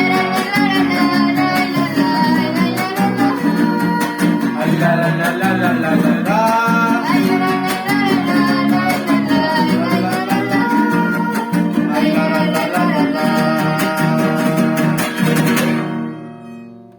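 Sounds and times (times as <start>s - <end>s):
fast rhythmic guitar strumming: 0.0s - 16.9s
violin melody with sliding notes: 0.0s - 16.9s.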